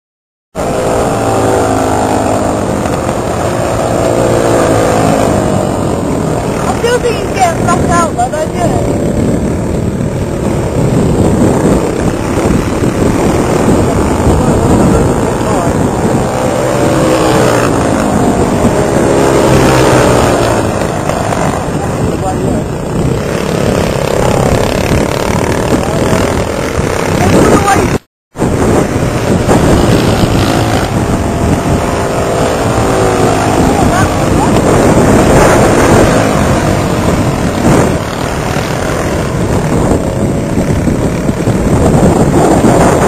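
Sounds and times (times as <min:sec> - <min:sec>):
kart engine running: 0:00.6 - 0:43.0.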